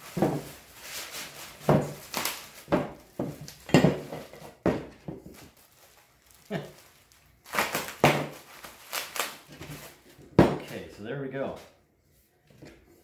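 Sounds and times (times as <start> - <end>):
plastic rustling: 0.0 - 10.8.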